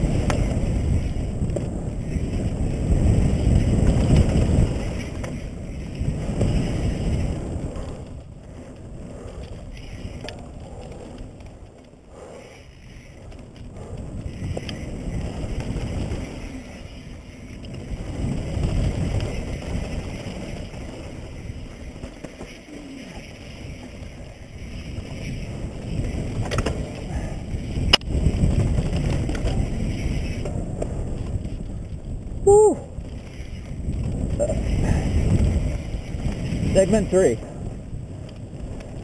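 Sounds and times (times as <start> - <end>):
tyres rolling over dirt: 0.0 - 39.0
wind rumbling on camera: 0.0 - 39.0.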